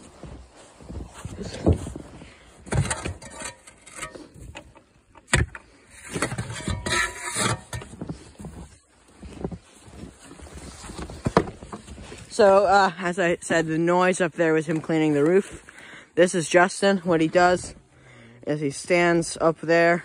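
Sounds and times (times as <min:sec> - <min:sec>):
snow scraping and crunching: 0:00.0 - 0:02.7, 0:05.8 - 0:20.0.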